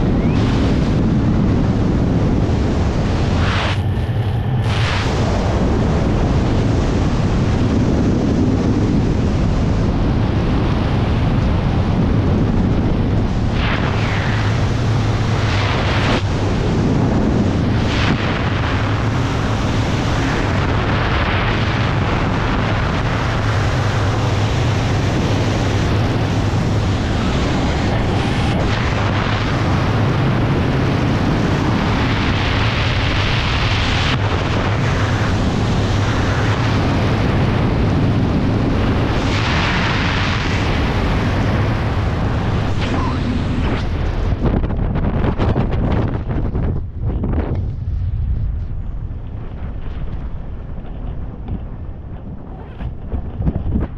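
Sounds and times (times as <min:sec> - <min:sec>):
wind roaring over microphone: 0:00.0 - 0:53.9.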